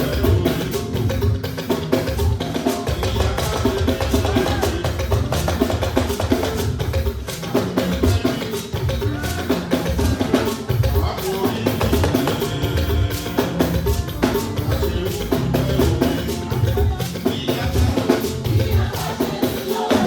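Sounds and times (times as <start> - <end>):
band music with drums: 0.0 - 20.0.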